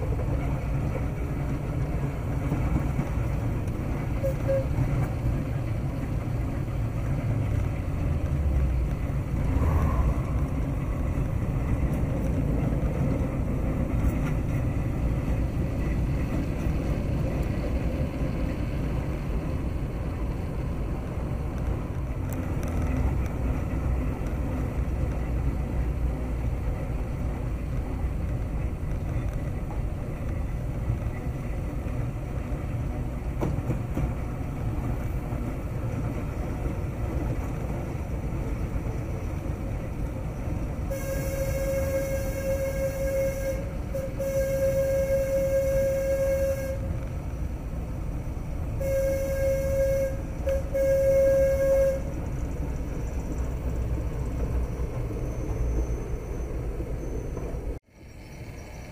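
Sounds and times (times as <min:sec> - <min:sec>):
diesel train rumbling: 0:00.0 - 0:58.9
road vehicle running noise: 0:00.0 - 0:58.9.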